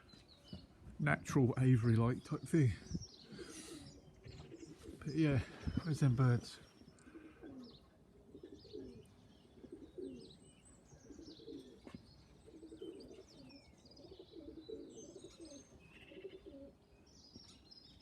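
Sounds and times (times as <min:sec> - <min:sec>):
small birds chirping: 0:00.0 - 0:18.0
pigeons cooing: 0:01.5 - 0:17.6.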